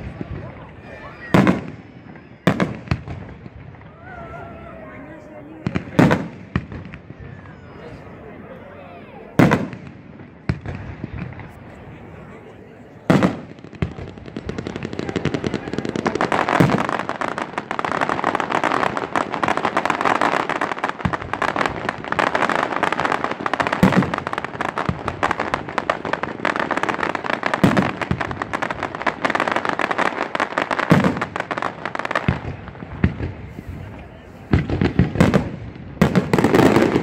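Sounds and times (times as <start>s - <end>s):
firework shells booming: 0.0s - 4.1s, 5.3s - 7.6s, 9.4s - 11.6s, 13.0s - 37.0s
fireworks popping and crackling: 0.0s - 8.2s, 9.3s - 37.0s.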